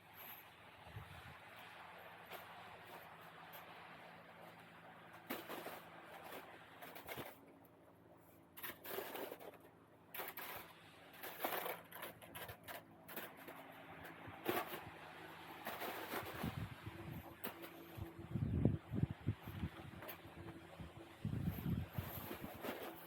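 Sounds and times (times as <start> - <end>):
snow crunching and scraping: 0.0 - 23.0.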